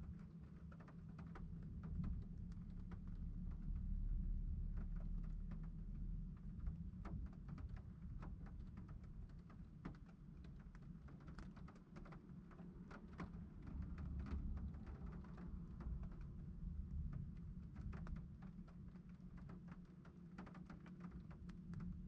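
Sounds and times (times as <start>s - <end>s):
faint low rumble: 0.0s - 11.5s, 12.8s - 20.4s.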